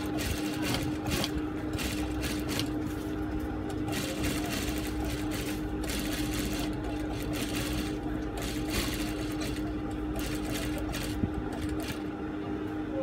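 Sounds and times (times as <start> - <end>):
sewing machine stitching: 0.0 - 3.0, 3.7 - 12.1
steady hum: 0.0 - 13.0.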